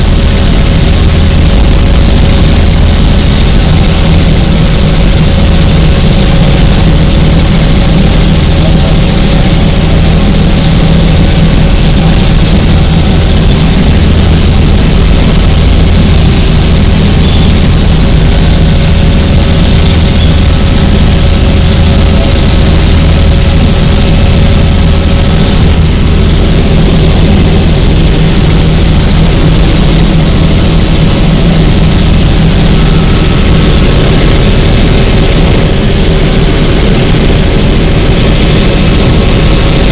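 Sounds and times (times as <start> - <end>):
helicopter engine and rotor drone: 0.0 - 39.9
high steady whine: 0.0 - 39.9.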